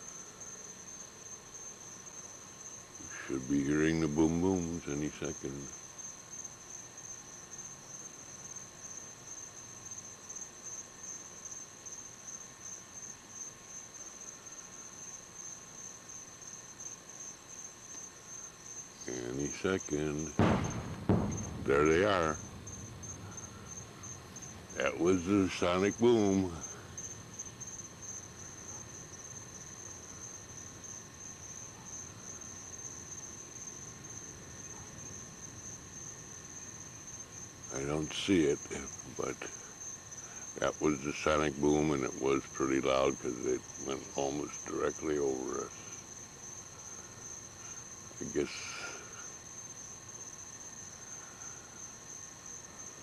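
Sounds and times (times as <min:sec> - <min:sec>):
faint low background hiss: 0:00.0 - 0:53.0
insects trilling: 0:00.0 - 0:53.0.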